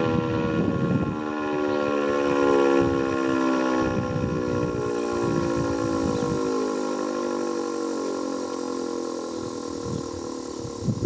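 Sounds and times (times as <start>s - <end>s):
warning siren winding down: 0.0s - 11.0s.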